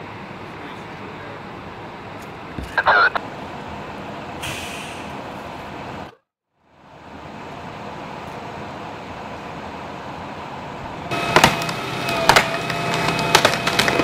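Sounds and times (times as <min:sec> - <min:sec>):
tow truck machine whine: 0:00.0 - 0:14.0
vehicles idling: 0:00.0 - 0:14.0.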